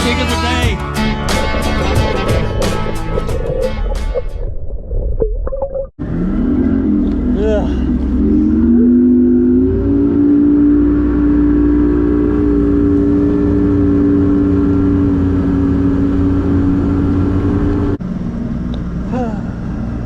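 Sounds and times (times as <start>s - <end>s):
outboard motor running: 0.0s - 4.3s, 6.0s - 20.0s.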